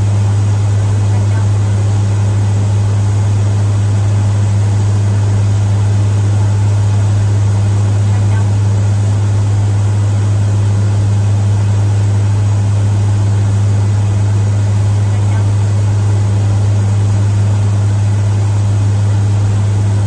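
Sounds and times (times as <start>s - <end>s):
mechanical drone with low hum: 0.0s - 20.0s.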